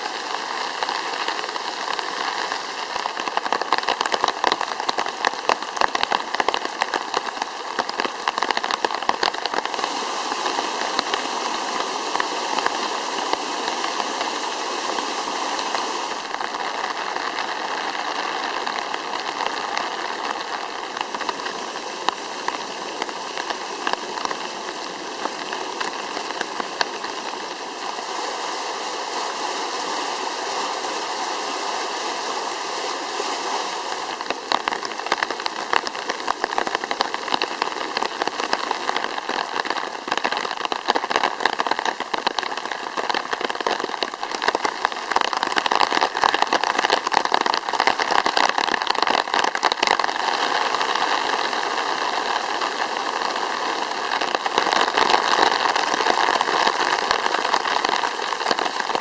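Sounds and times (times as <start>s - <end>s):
rain falling: 0.0s - 59.0s
water rushing through ditch: 0.0s - 59.0s.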